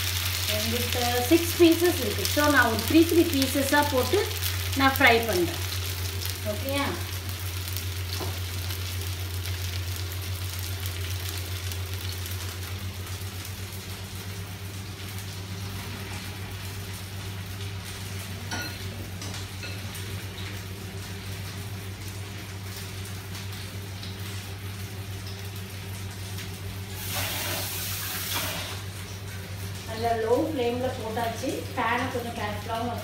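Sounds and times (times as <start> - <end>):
steady low hum: 0.0 - 27.0
fish sizzling in oil: 0.0 - 33.0.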